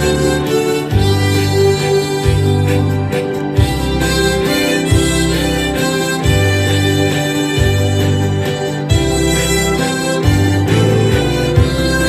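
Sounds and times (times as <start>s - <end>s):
harmonica ensemble playing: 0.0s - 12.0s.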